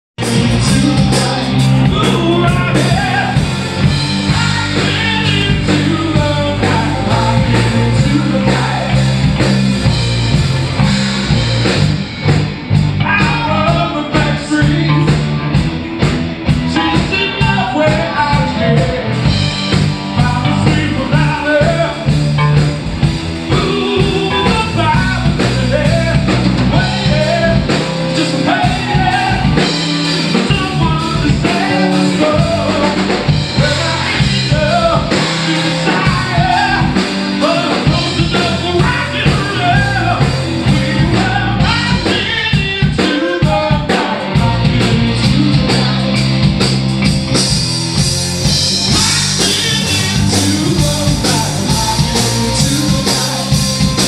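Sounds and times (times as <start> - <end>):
electric bass: 0.0 - 54.0
lead vocal singing: 0.2 - 10.0, 13.0 - 15.4, 16.6 - 46.8, 48.5 - 54.0
drum kit beat: 0.2 - 54.0
electric guitars: 0.2 - 54.0.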